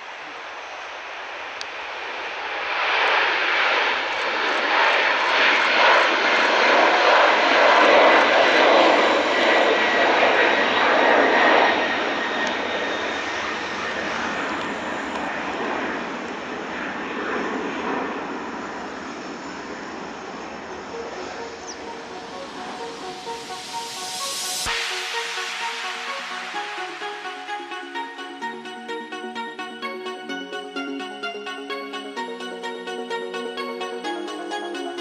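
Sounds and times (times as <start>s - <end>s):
jet engines rushing at takeoff: 0.0s - 35.0s.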